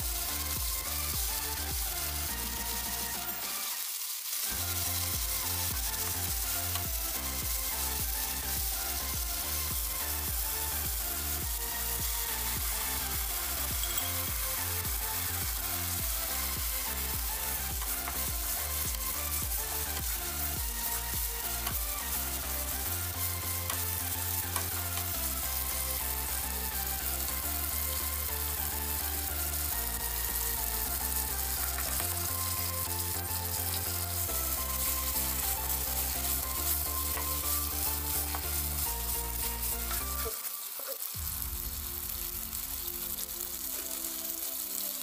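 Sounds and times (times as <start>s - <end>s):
background music with bass line: 0.0s - 3.5s, 4.5s - 40.4s, 41.2s - 45.0s
onions sizzling in a frying pan: 0.0s - 45.0s.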